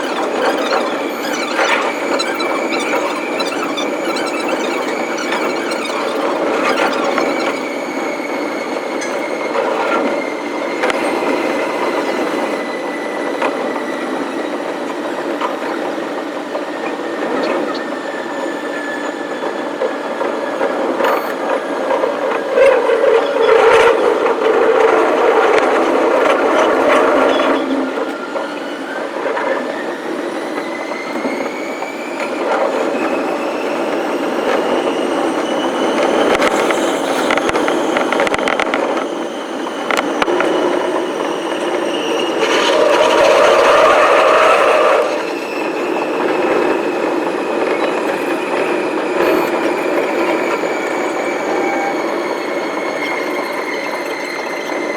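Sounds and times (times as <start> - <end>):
electric train on rails: 0.0 - 54.9
train motor whine: 0.0 - 54.9.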